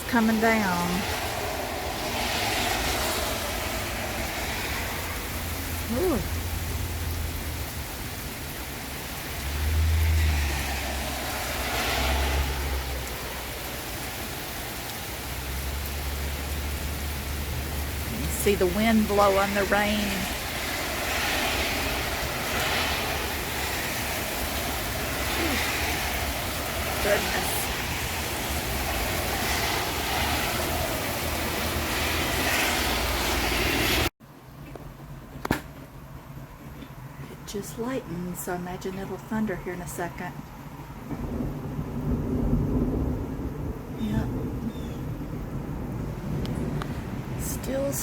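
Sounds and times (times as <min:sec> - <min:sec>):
heavy rain pouring: 0:00.0 - 0:34.1, 0:39.8 - 0:48.0
wind blowing: 0:00.0 - 0:34.1, 0:40.0 - 0:48.0.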